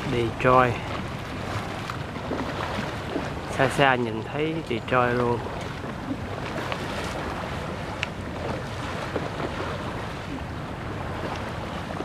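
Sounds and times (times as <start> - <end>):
river water washing against bank: 0.0 - 12.0
wind buffeting microphone: 0.0 - 12.0.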